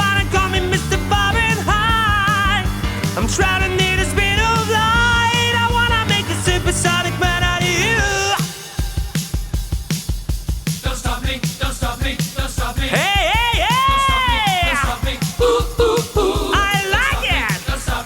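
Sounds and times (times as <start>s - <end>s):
rock band music: 0.0s - 11.6s, 12.2s - 18.0s
new rock drum beat: 0.0s - 18.0s.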